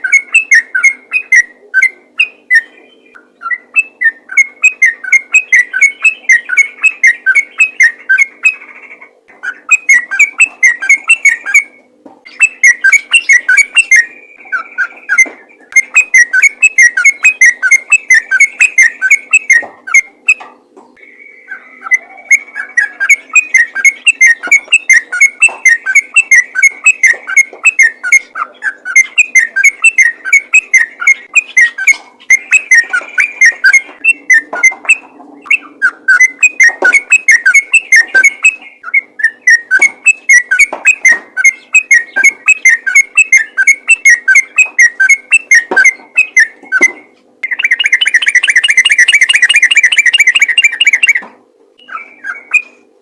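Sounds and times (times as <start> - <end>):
bird singing whistled chirps: 0.0 - 8.7, 9.4 - 20.4, 21.0 - 51.2, 51.8 - 52.8.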